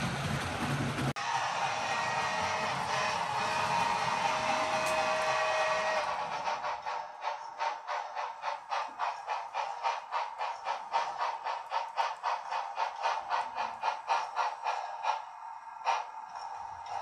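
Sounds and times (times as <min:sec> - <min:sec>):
hissing steam chuffs from speaker: 0:00.0 - 0:17.0.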